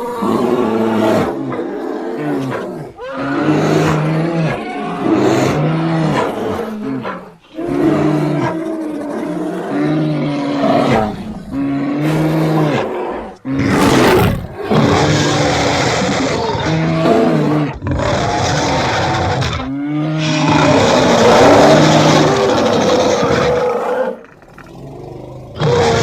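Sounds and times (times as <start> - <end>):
bear growling and roaring: 0.0 - 26.0.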